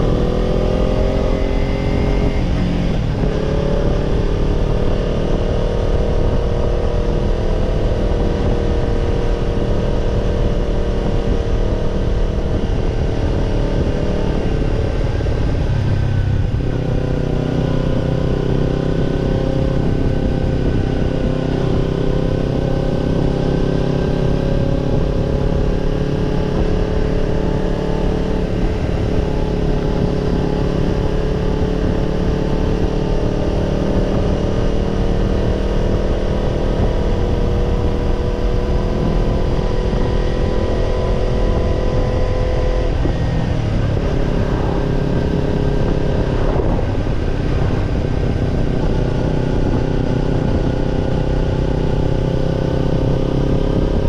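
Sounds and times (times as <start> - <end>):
motorcycle exhaust note: 0.0 - 54.0.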